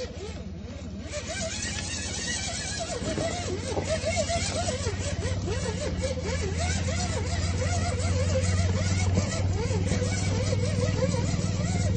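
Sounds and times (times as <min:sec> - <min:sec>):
gear and tyre rattle: 0:00.0 - 0:11.9
rc car motor humming: 0:00.0 - 0:11.9.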